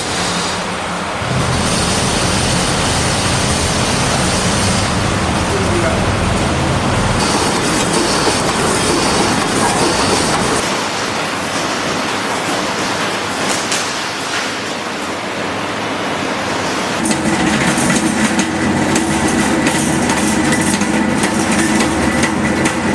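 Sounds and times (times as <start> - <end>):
welding machine clattering: 1.2 - 14.8, 17.0 - 22.9.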